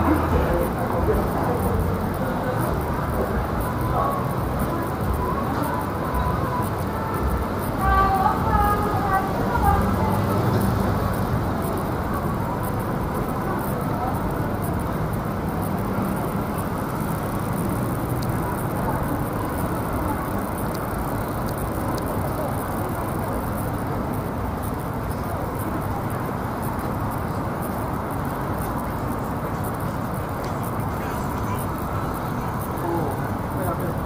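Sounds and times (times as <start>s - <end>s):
distant traffic hum: 0.0s - 34.0s
faint indistinct voices: 0.0s - 34.0s.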